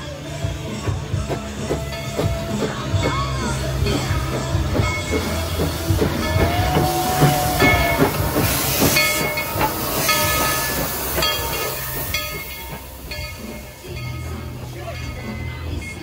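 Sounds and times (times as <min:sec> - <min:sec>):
steam locomotive hissing: 0:00.0 - 0:16.0
locomotive running gear clanking: 0:00.3 - 0:16.0.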